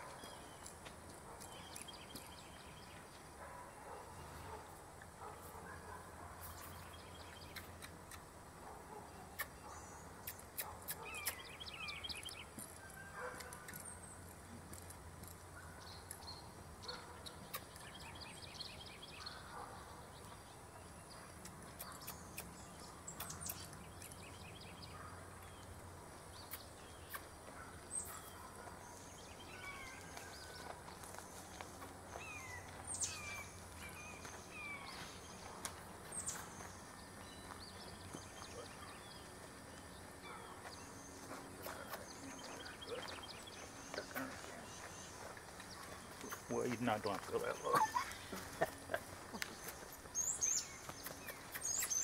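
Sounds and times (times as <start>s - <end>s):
birds chirping faintly: 0.0s - 52.0s.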